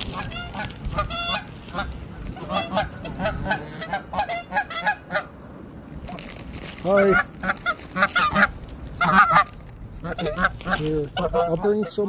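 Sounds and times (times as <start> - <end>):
geese honking: 0.0 - 5.4, 6.8 - 12.0.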